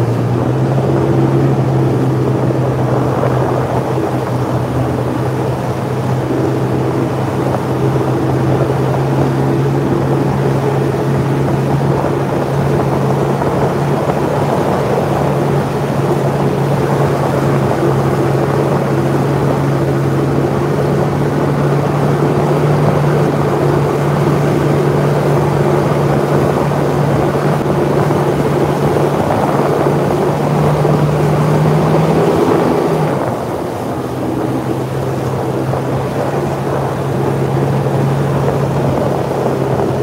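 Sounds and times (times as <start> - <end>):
jet ski engine drone: 0.0 - 40.0
rushing water: 0.0 - 40.0
wind on microphone: 0.0 - 40.0.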